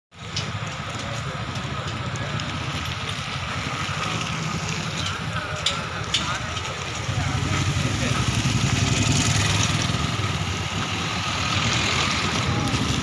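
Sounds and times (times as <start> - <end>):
street traffic rumble: 0.1 - 13.0.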